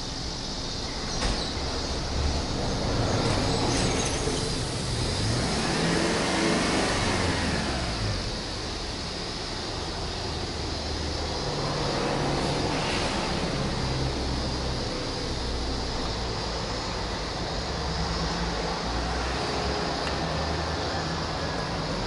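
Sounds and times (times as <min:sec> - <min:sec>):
car engine idling: 0:04.2 - 0:22.0.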